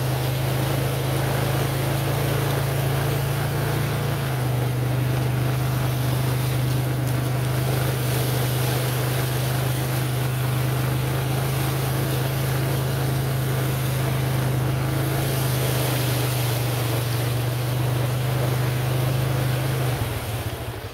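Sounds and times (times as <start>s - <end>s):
atv engine droning: 0.0s - 20.9s.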